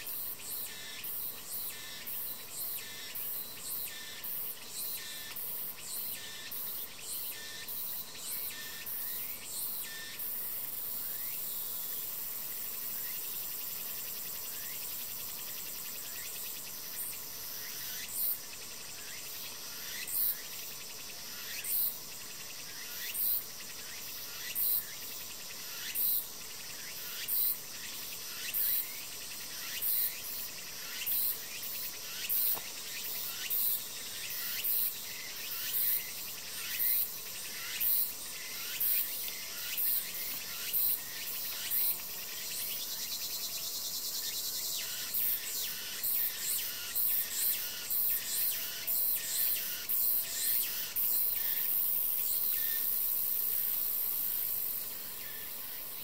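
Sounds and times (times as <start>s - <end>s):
insect buzzy call: 0.0s - 56.0s
steadier insect buzz: 0.0s - 56.0s
steady high insect hum: 0.0s - 56.0s.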